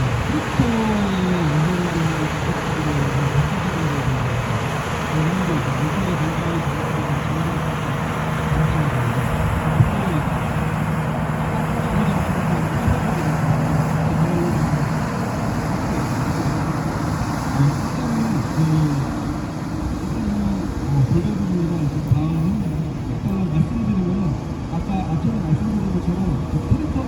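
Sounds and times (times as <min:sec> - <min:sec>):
background voices: 0:00.0 - 0:27.0
engine humming: 0:00.0 - 0:27.0.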